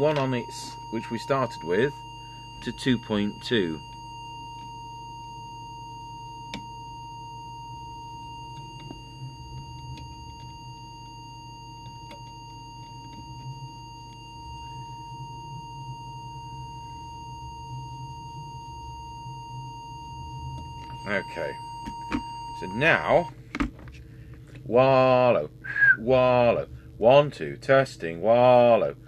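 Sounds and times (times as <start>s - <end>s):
steady test tone: 0.0s - 23.4s, 24.2s - 29.0s
low hum: 0.0s - 29.0s.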